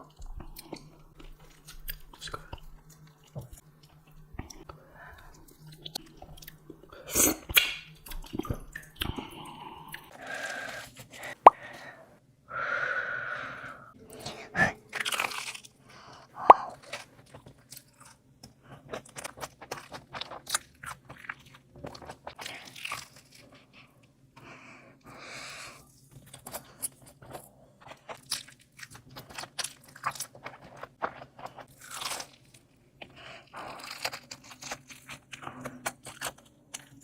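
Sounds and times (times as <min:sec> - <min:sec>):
person chewing crunchy food: 0:00.0 - 0:11.7, 0:14.6 - 0:24.0, 0:26.1 - 0:37.0.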